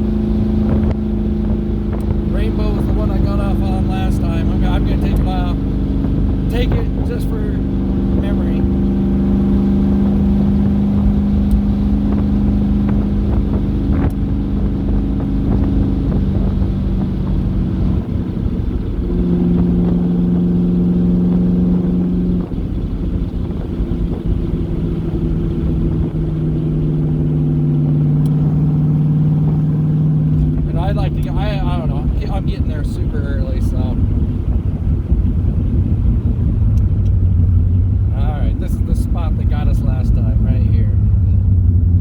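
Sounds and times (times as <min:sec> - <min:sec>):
car engine running: 0:00.0 - 0:42.0
wind noise: 0:00.0 - 0:42.0.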